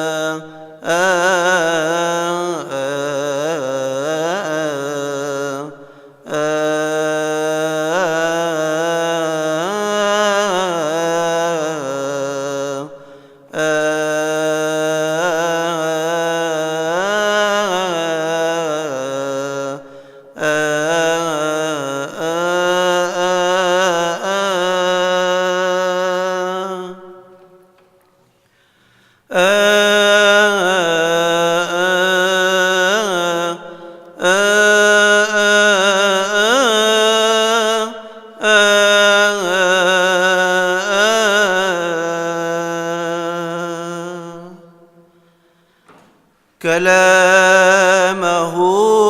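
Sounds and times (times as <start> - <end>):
man chanting a hymn: 0.0 - 28.0, 29.3 - 49.0.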